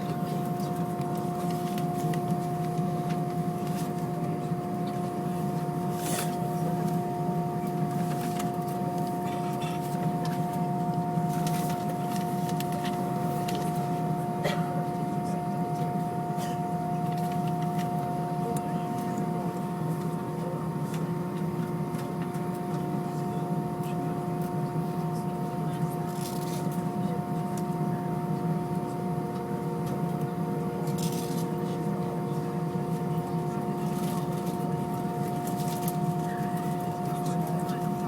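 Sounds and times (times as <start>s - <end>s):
airplane cabin hum: 0.0s - 38.0s.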